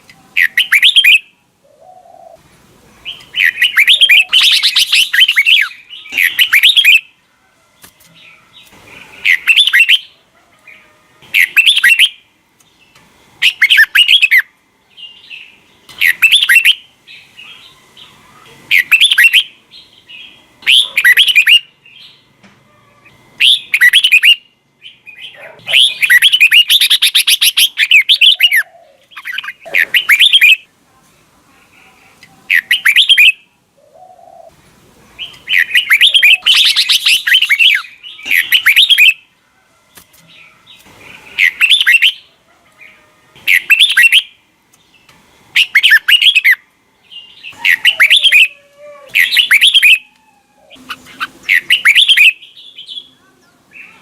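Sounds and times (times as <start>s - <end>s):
bird singing warbled phrases: 0.1s - 7.2s, 8.2s - 22.4s, 23.0s - 30.7s, 31.6s - 34.6s, 35.2s - 39.3s, 40.0s - 54.0s.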